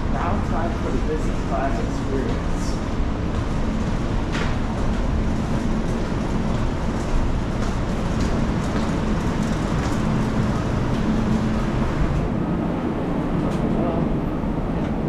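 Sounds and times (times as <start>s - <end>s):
aircraft ground noise rumble: 0.0s - 15.0s.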